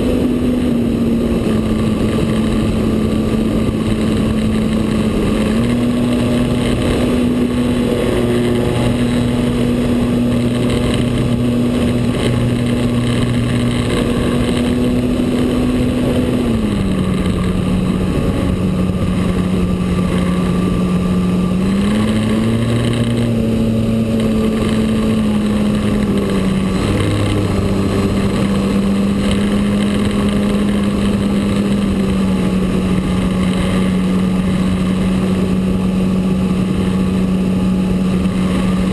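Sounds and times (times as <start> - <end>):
model airplane motor: 0.0 - 38.9.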